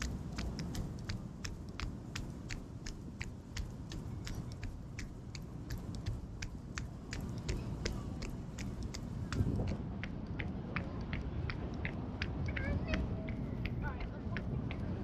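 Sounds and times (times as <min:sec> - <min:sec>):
runner's footsteps tapping: 0:00.0 - 0:14.9
storm wind on microphone: 0:00.0 - 0:15.0.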